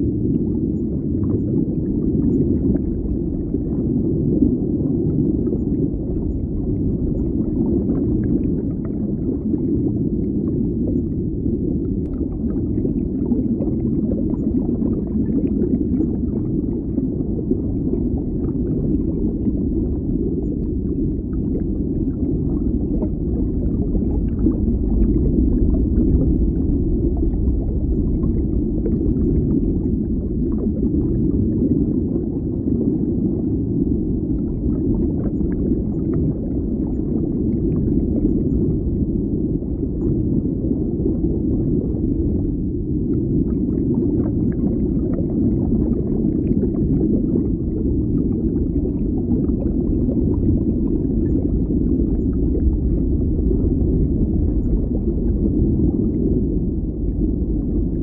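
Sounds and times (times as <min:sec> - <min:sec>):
underwater rumble: 0:00.0 - 0:58.0.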